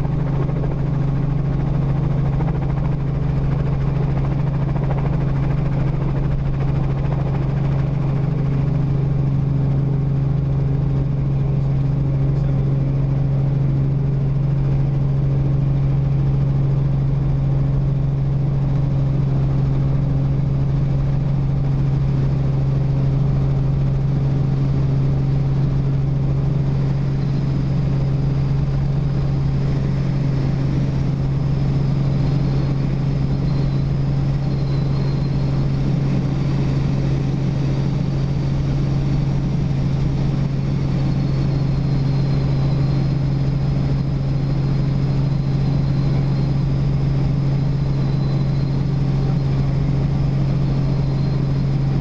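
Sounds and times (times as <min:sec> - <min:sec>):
helicopter engine and rotors drone: 0:00.0 - 0:52.0.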